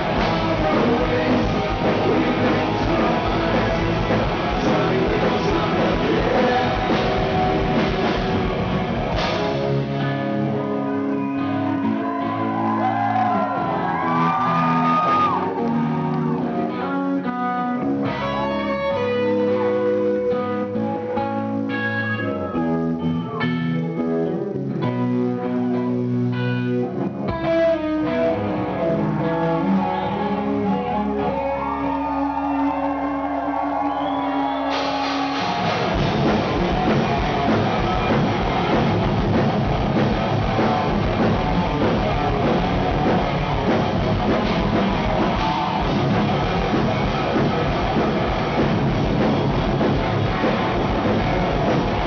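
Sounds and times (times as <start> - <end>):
electric guitar notes: 0.0 - 52.0
rock band with distorted guitars: 0.0 - 52.0.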